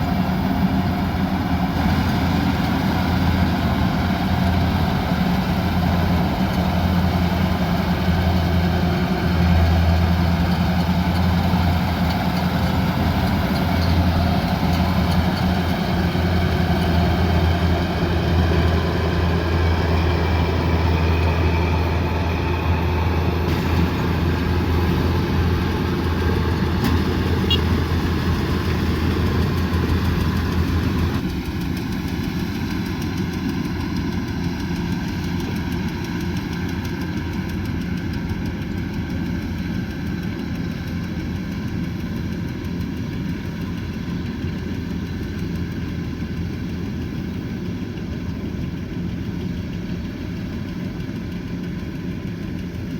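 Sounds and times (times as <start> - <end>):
combine harvester engine humming: 0.0 - 52.9.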